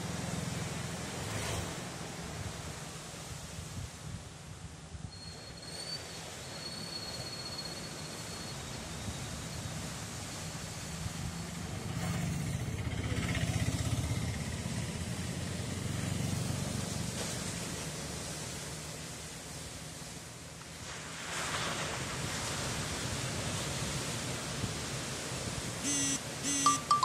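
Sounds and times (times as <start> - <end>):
waves breaking on shore: 0.0 - 12.6, 13.4 - 27.0.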